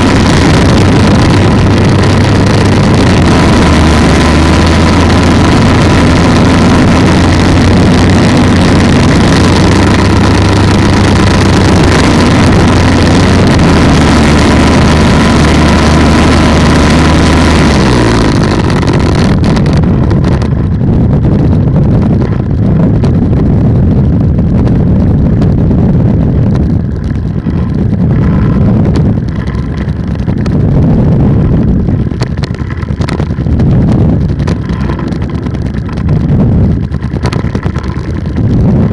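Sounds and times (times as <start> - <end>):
two-stroke engine running: 0.0 - 38.9
wind on microphone: 0.0 - 38.9.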